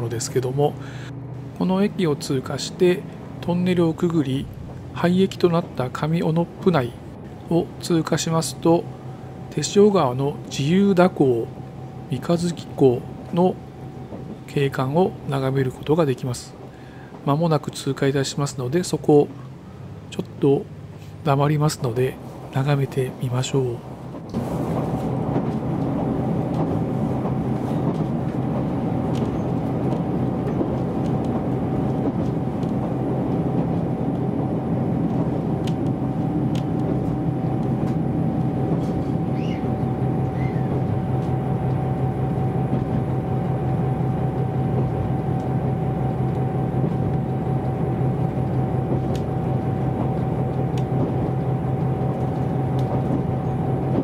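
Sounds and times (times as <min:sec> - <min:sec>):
constant tone: 0:00.0 - 0:54.0
train engine drone: 0:00.0 - 0:54.0
wheels on rails: 0:00.0 - 0:54.0.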